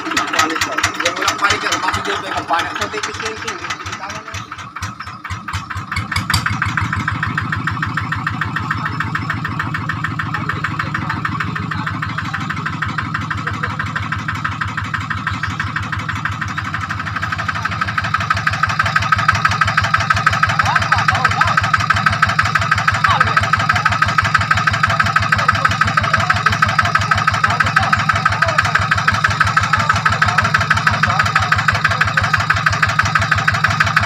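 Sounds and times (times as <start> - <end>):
diesel engine chugging: 0.0 - 34.0.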